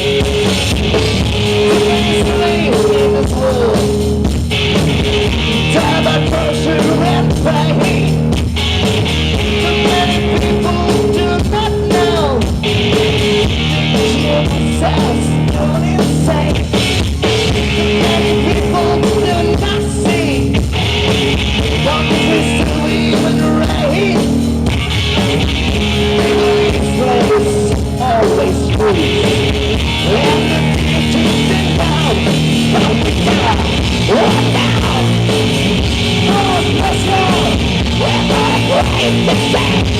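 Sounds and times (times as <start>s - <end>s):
live rock band: 0.0s - 39.9s
person singing: 1.5s - 4.0s, 5.5s - 8.2s, 9.5s - 16.8s, 17.5s - 20.5s, 21.6s - 24.3s, 26.0s - 39.9s.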